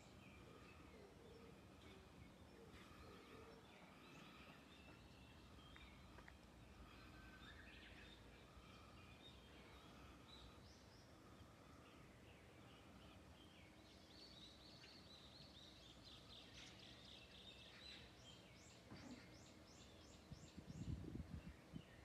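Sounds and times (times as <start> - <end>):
faint bird calls: 0.0 - 15.3, 16.2 - 20.0.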